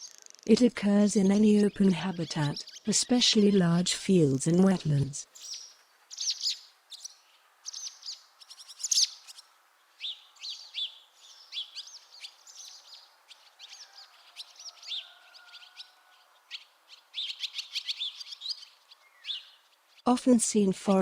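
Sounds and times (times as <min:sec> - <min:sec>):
swallows twittering: 0:00.0 - 0:03.8, 0:04.9 - 0:20.1.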